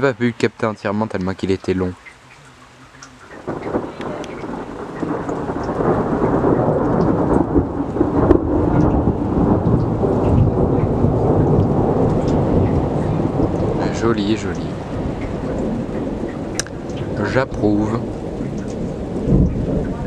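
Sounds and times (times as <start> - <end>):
thunder rumbling: 1.6 - 20.0
thunder crack: 3.2 - 20.0.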